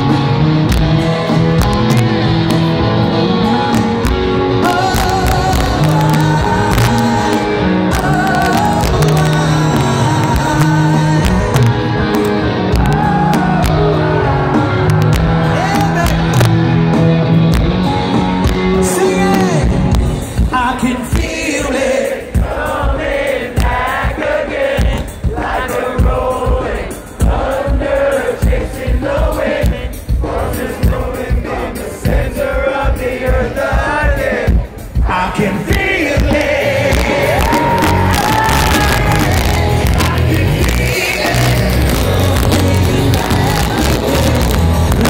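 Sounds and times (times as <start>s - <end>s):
rock band playing live: 0.0s - 45.0s
crowd singing along: 1.3s - 45.0s
man singing lead vocal: 3.4s - 16.6s, 18.6s - 45.0s.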